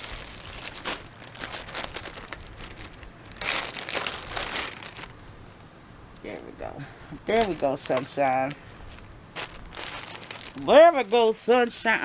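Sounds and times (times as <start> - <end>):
plastic packaging crinkling: 0.0 - 5.2, 7.2 - 12.0.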